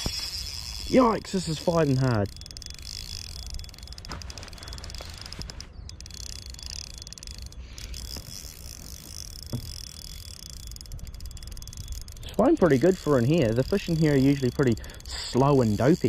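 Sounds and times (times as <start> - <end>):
fishing reel ticking: 0.0 - 16.0.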